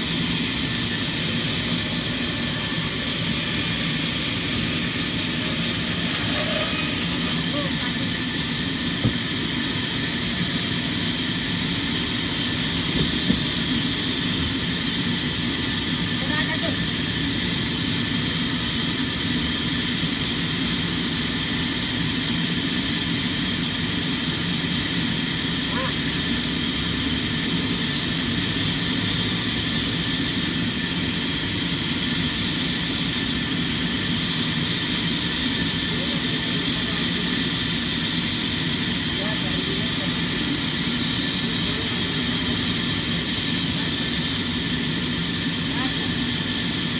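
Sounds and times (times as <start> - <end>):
sawmill machinery droning: 0.0 - 46.9.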